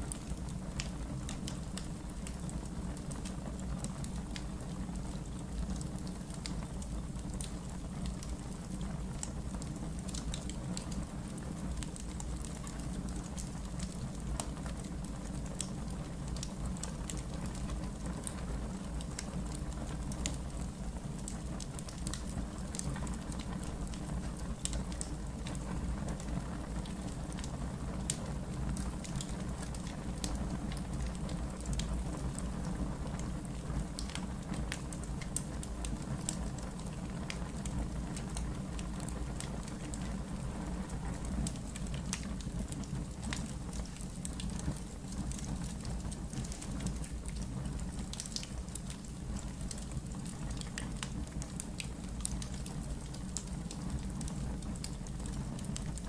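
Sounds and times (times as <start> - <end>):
fire crackles and pops: 0.0 - 56.0
low rumble of flames: 0.0 - 56.0.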